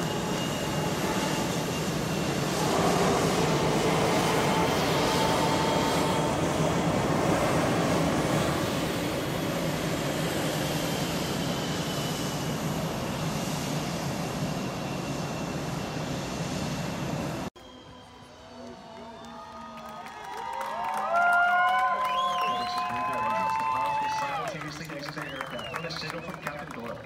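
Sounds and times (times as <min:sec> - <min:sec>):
airplane engine roaring: 0:00.0 - 0:27.0.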